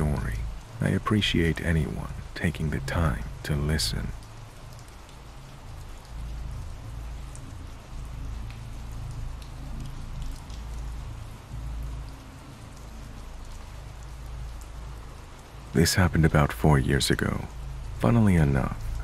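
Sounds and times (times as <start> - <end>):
raindrops ticking: 0.0 - 19.0
steady rain hiss: 0.0 - 19.0.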